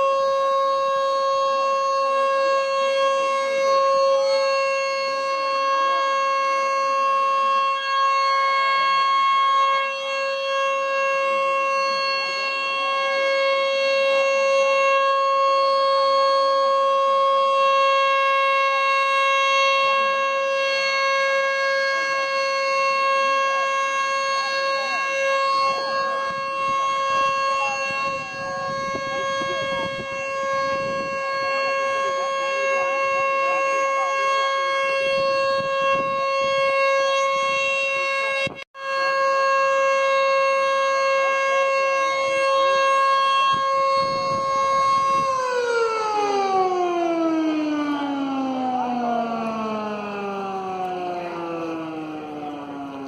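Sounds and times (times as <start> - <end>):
electromechanical siren wailing: 0.0 - 53.0.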